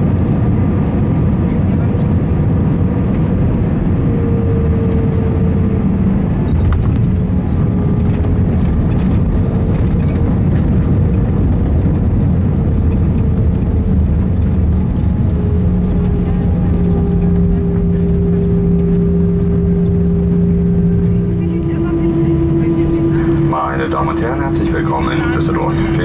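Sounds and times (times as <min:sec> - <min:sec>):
jet engines and rushing air roar: 0:00.0 - 0:26.0
low hum: 0:00.0 - 0:26.0.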